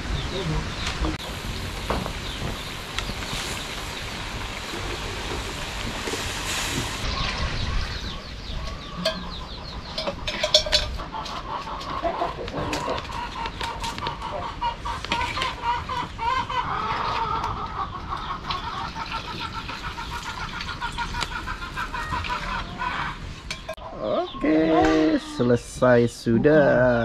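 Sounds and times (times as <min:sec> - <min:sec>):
chickens clucking: 0:02.0 - 0:27.0.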